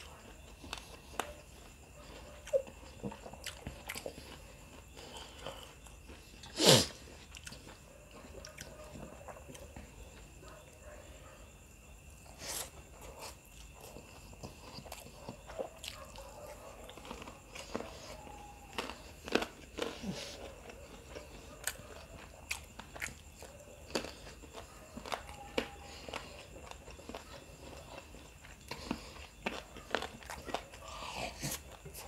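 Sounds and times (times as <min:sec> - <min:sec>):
chewing food: 0:00.0 - 0:32.0.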